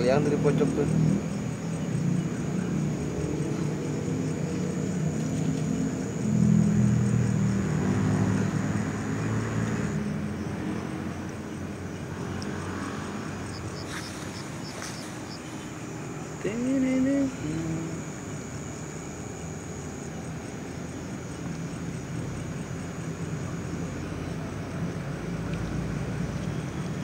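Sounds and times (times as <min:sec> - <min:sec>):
passing vehicle engine drone: 0:00.0 - 0:27.0.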